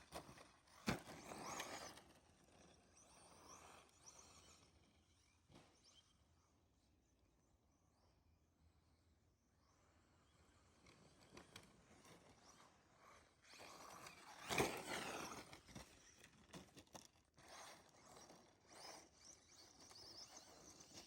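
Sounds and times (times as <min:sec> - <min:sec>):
rc truck motor whine: 0:00.0 - 0:07.5, 0:09.3 - 0:21.0.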